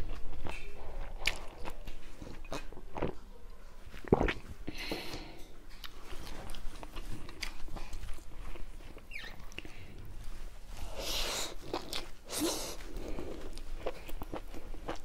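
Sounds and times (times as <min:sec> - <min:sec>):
person chewing rice: 0:00.0 - 0:15.0.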